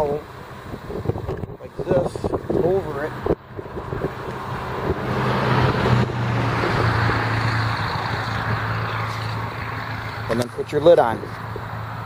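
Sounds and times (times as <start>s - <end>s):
vehicle passing by: 1.7s - 12.0s.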